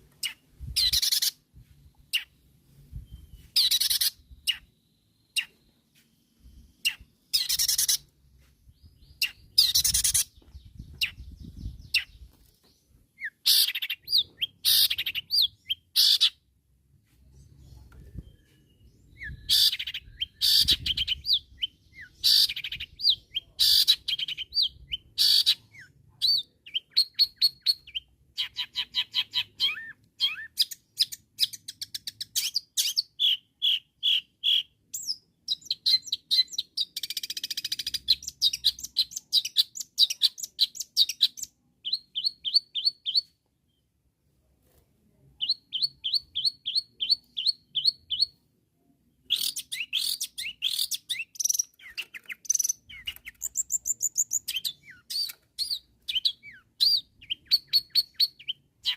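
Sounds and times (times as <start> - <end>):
bird singing sharp chirps and trills: 0.1 - 16.5, 17.3 - 43.9, 45.4 - 48.4, 49.2 - 58.9.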